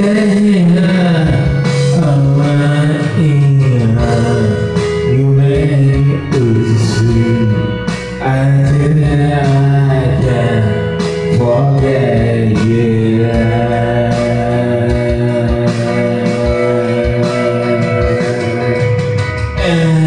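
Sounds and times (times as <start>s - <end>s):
backing track: 0.0s - 20.0s
man singing a slow ballad: 0.0s - 20.0s.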